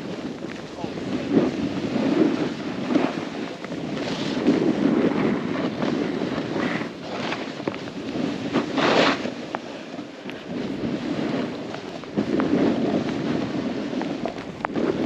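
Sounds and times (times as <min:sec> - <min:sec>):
snowboard edges scraping snow: 0:00.0 - 0:15.0
wind rushing over microphone: 0:00.0 - 0:15.0.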